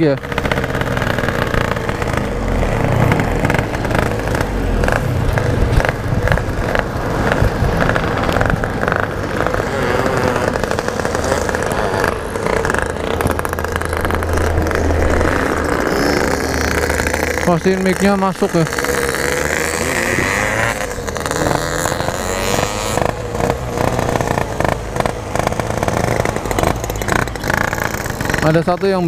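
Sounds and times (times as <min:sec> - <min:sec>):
two-stroke motorcycle engine: 0:00.0 - 0:29.0.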